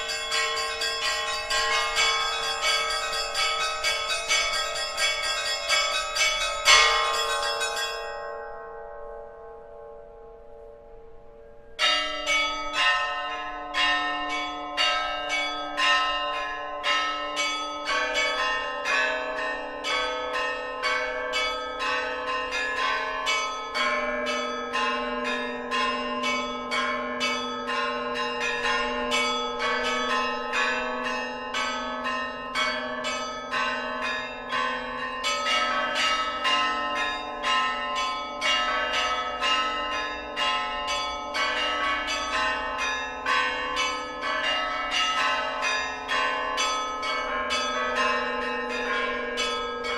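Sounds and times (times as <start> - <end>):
deep bells ringing: 0.0 - 49.9.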